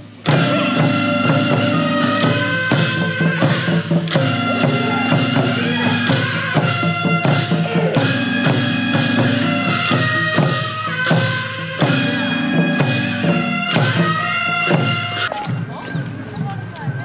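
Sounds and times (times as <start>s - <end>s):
music with percussion: 0.0s - 17.0s.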